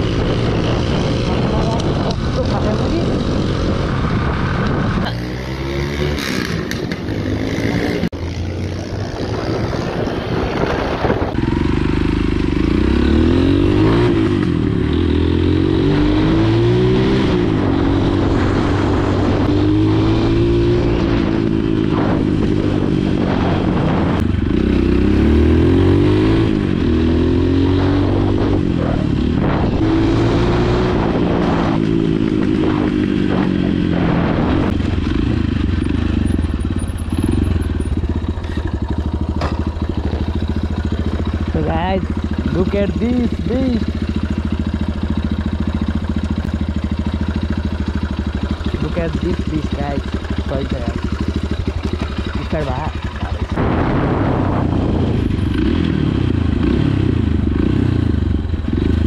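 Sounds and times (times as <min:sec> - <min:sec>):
dirt bike engine accelerating: 0:00.0 - 0:59.0.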